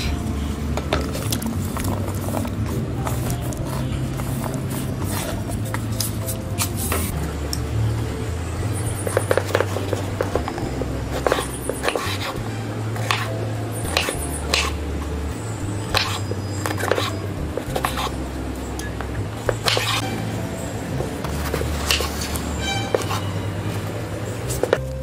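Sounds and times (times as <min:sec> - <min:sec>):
background music with bass: 0:00.0 - 0:25.0.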